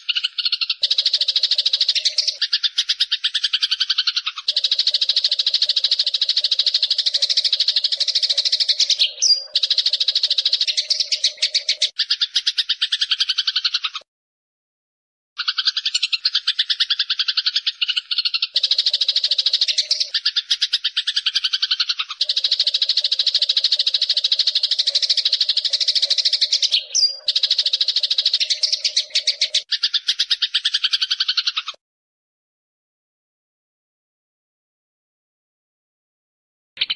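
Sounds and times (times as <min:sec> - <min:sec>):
sparrow trilling chirps: 0:00.0 - 0:14.0, 0:15.4 - 0:31.8
harsh low bird chatter: 0:00.0 - 0:14.1, 0:15.4 - 0:31.8.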